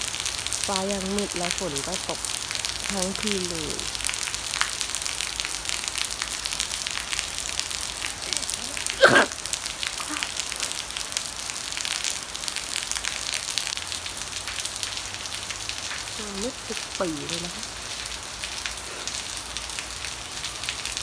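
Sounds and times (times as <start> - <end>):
rain patter: 0.0 - 21.0.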